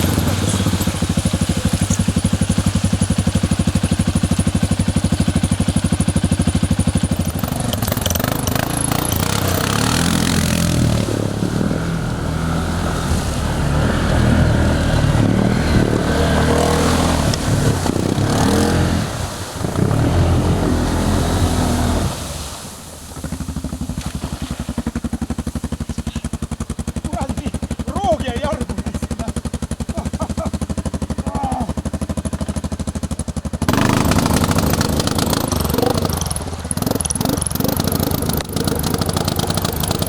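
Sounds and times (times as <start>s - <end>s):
atv engine revving and idling: 0.0s - 40.0s.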